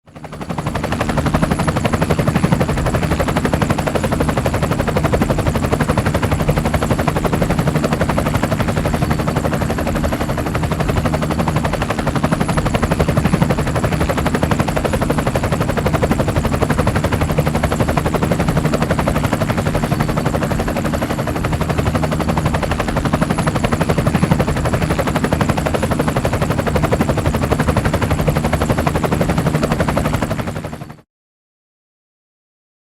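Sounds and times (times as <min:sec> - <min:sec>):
helicopter rotor chop: 0:00.1 - 0:31.0.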